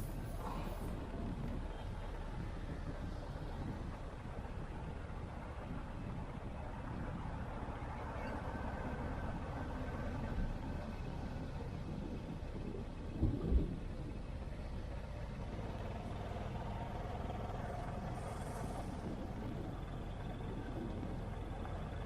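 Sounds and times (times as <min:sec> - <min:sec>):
distant city traffic rumble: 0:00.0 - 0:22.0.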